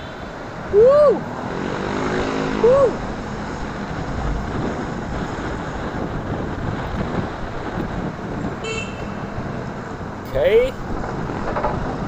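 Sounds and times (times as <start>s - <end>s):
road noise: 0.0s - 12.0s
wind buffeting microphone: 0.6s - 12.0s.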